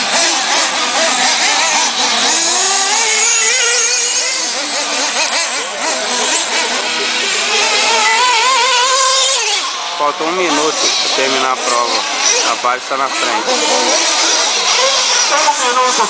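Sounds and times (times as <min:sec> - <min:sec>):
rc car engines whining: 0:00.0 - 0:16.0.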